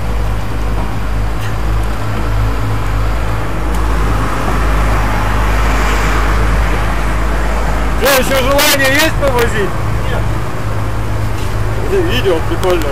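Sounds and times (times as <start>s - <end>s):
boat engine humming: 0.0s - 12.9s
water rushing along hull: 0.0s - 12.9s
wind: 0.0s - 12.9s.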